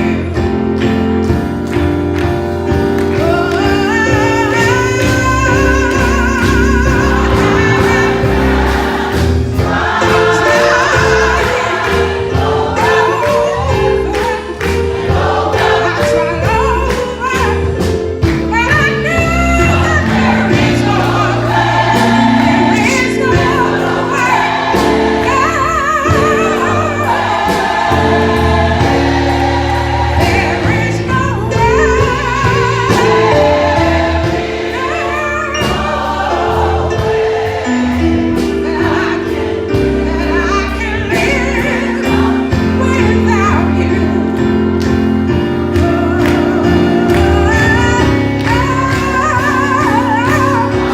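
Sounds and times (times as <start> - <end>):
bass line: 0.0 - 50.9
gospel choir singing: 0.0 - 50.9.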